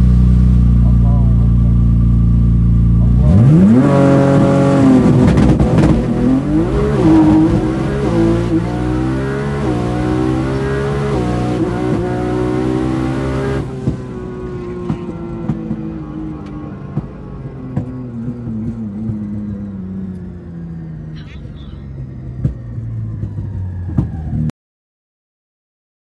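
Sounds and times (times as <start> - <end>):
car engine accelerating: 0.0 - 24.5.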